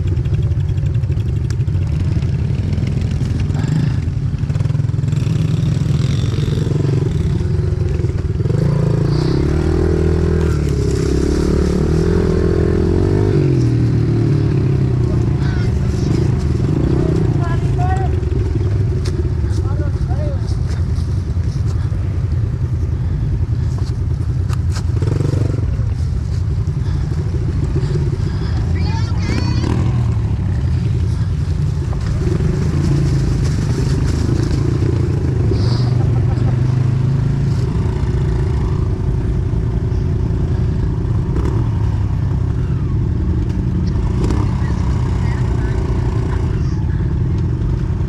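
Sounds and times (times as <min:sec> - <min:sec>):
dirt bike engine idling: 0:00.0 - 0:48.0.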